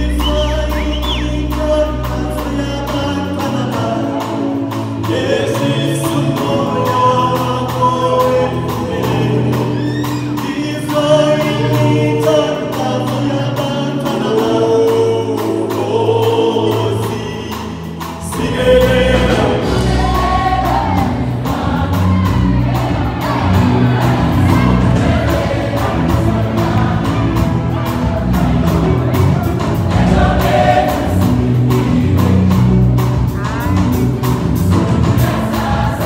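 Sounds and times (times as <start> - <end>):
amplified lead singers: 0.0 - 36.0
choir singing in harmony: 0.0 - 36.0
deep bass: 0.0 - 36.0.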